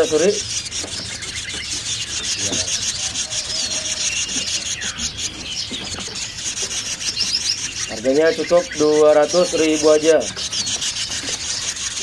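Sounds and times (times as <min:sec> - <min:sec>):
bird chirps: 0:00.0 - 0:12.0
nestlings begging chatter: 0:00.0 - 0:12.0.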